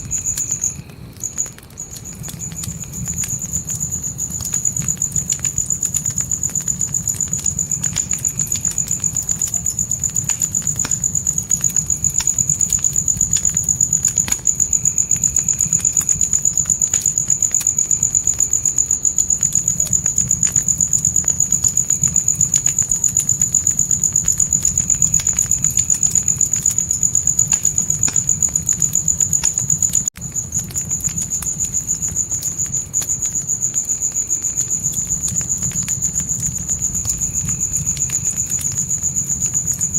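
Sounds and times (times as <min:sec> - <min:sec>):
burning wood crackling: 0:00.0 - 0:39.9
crickets trilling: 0:00.0 - 0:39.9
low fire rumble: 0:00.0 - 0:39.9.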